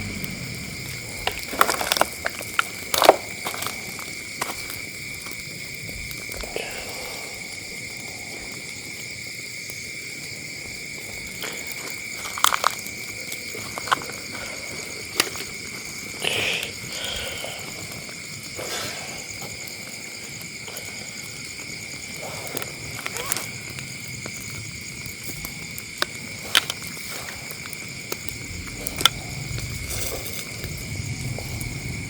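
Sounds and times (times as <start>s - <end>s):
night insects chirring: 0.0s - 32.0s.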